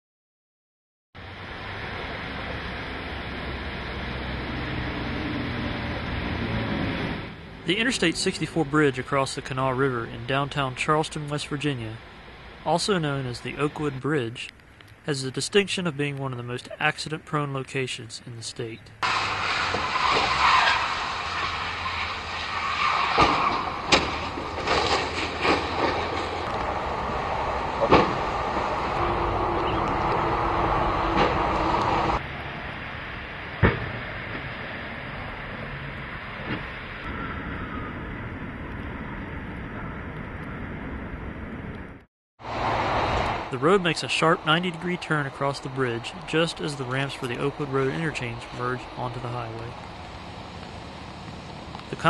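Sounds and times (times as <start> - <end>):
highway traffic: 1.2 - 52.0.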